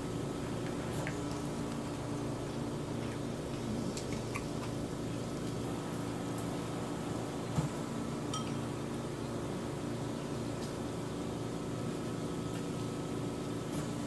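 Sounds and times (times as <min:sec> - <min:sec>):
appliance humming: 0:00.0 - 0:14.0.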